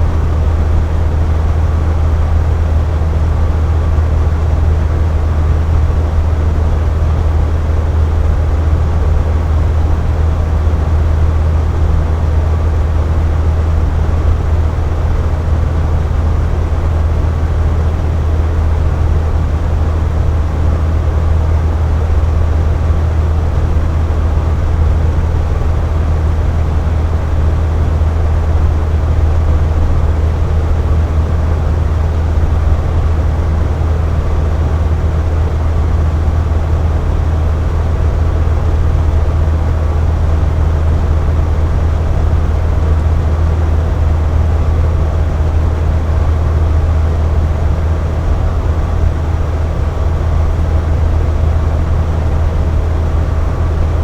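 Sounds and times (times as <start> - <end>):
fan air rush with hum: 0.0 - 54.0.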